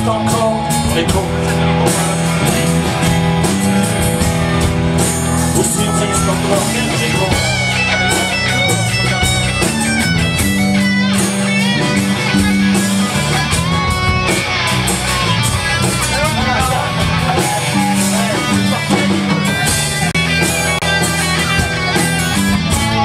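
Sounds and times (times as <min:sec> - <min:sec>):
bass guitar: 0:00.0 - 0:23.0
drums: 0:00.0 - 0:23.0
electric guitar melody: 0:00.0 - 0:23.0.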